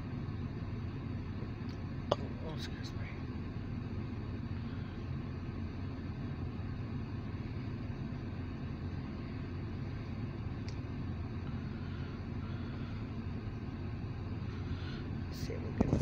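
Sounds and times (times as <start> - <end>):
idling vehicle rumble inside cabin: 0.0 - 16.0.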